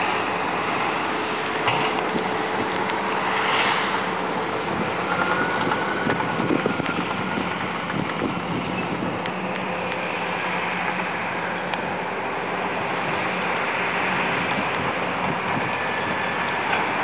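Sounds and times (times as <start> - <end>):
hydraulic excavator working: 0.0 - 17.0
low diesel engine hum: 0.0 - 17.0.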